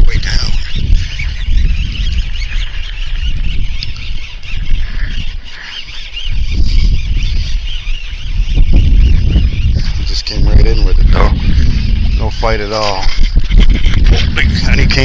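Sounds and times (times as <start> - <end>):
birds chirping and squawking: 0.0 - 15.0
wind buffeting microphone: 0.0 - 15.0.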